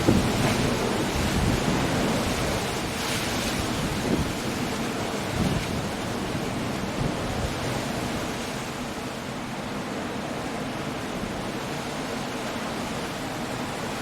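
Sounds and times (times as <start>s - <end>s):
rain: 0.0s - 14.0s
surf roaring: 0.0s - 14.0s
wind: 0.0s - 14.0s.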